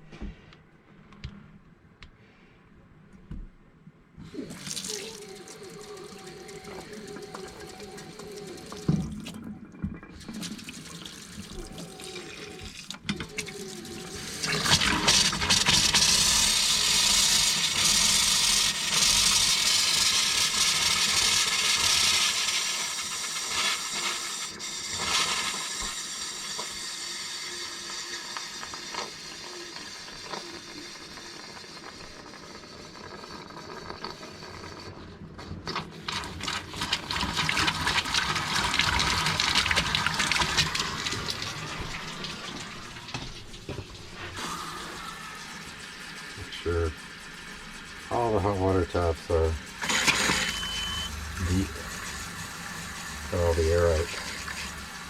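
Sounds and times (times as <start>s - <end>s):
water rushing from tap: 4.2s - 55.0s.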